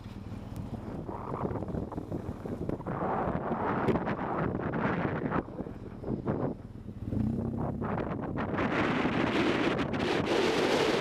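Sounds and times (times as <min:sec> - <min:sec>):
motorcycle engine hum: 0:00.0 - 0:11.0
wind buffeting microphone: 0:00.0 - 0:11.0.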